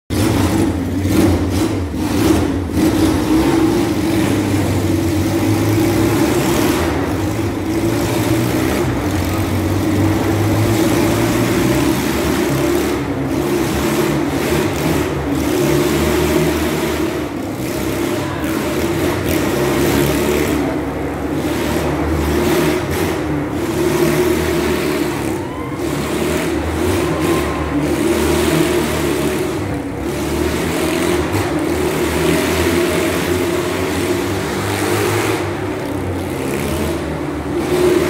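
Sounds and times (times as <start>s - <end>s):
motorcycle engine running: 0.1s - 38.0s.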